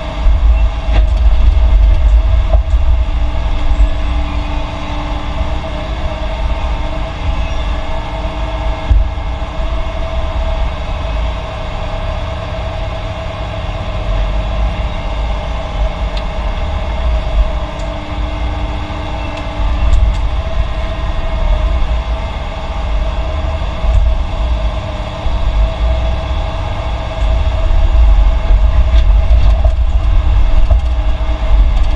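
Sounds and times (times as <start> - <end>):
diesel machinery engine rumble: 0.0 - 31.9
held machine whine: 0.0 - 31.9.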